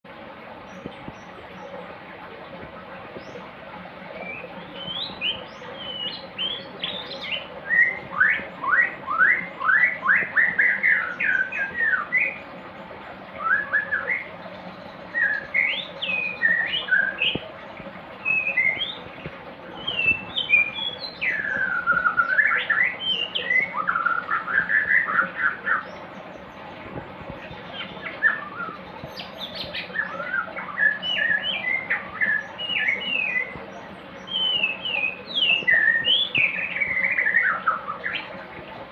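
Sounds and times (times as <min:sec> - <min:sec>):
faint steady hum: 0:00.1 - 0:38.9
songbird singing: 0:02.7 - 0:03.5, 0:04.1 - 0:38.7.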